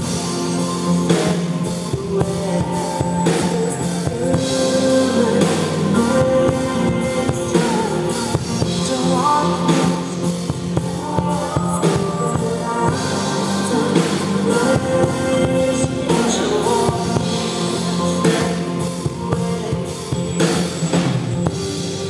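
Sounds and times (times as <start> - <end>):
live pop-rock band playing: 0.0 - 22.0.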